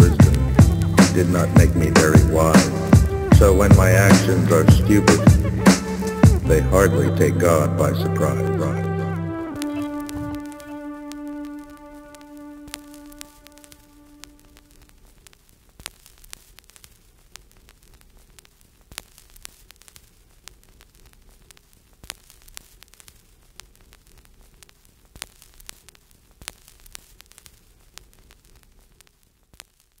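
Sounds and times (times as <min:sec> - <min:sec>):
vinyl record crackle and pops: 0:00.0 - 0:30.0.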